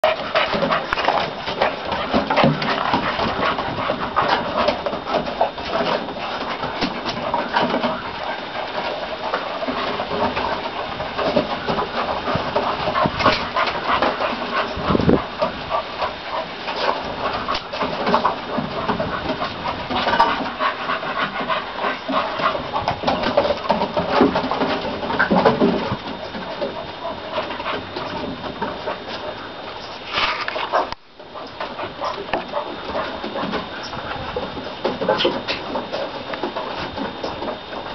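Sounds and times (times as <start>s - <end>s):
puppies panting: 0.0s - 37.9s.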